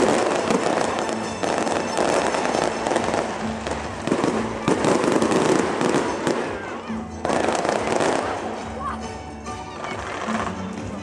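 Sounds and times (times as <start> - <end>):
fireworks popping and crackling: 0.0 - 8.7, 9.8 - 11.0
background music: 0.0 - 11.0.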